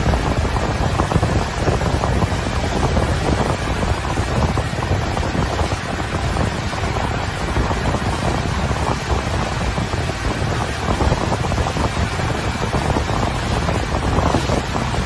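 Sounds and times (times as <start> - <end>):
boat rushing across water: 0.0 - 15.0
wind buffeting microphone: 0.0 - 15.0.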